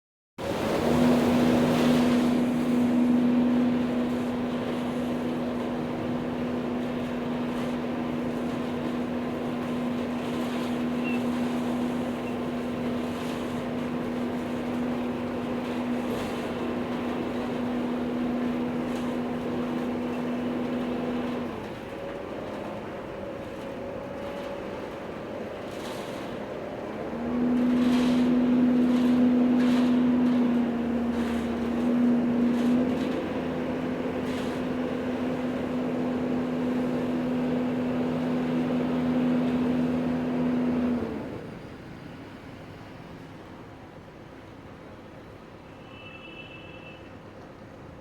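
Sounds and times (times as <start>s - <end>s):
mechanical hum: 0.4s - 48.0s
outdoor background noise: 0.4s - 48.0s.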